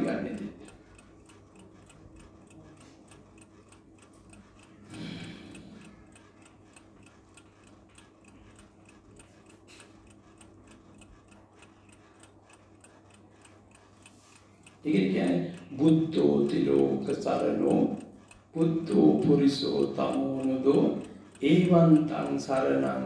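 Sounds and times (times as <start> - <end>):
faint even ticking: 0.0 - 23.0
steady low hum: 0.0 - 23.0.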